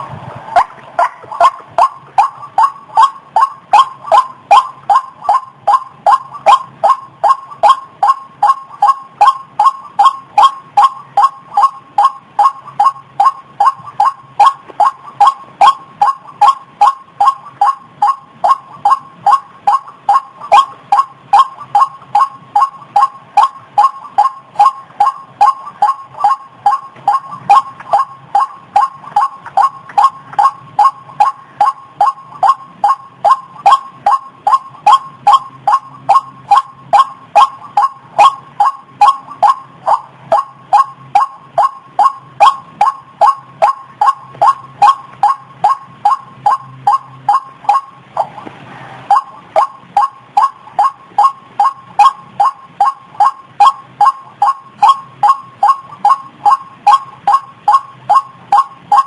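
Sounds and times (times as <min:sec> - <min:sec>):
waterhen calling: 0:00.6 - 0:48.4.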